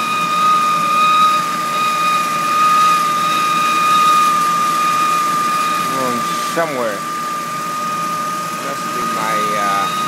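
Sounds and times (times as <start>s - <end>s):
high-pitched engine whine: 0.0s - 10.0s.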